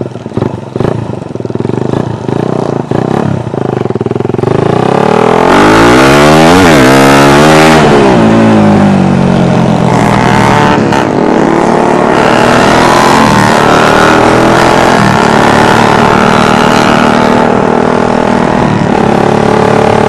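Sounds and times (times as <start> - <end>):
motorcycle engine at full throttle: 0.0 - 20.0.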